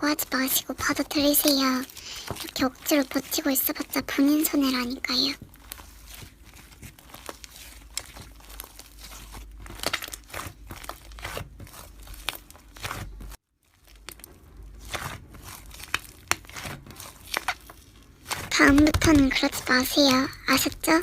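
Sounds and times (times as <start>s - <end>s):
slime crackling and popping: 0.1s - 21.0s.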